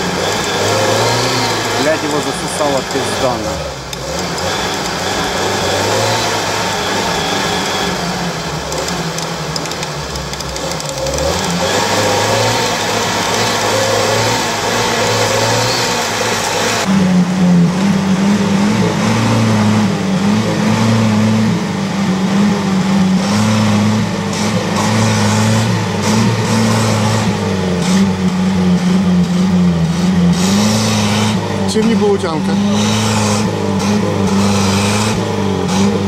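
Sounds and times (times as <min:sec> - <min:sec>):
engine revving under load: 0:00.0 - 0:36.0.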